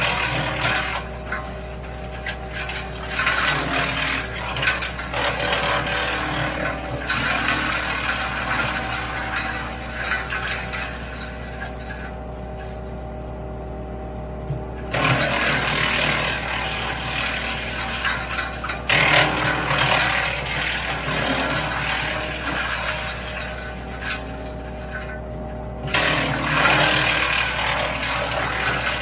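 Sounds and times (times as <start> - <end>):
wood chipper drone: 0.0 - 29.0.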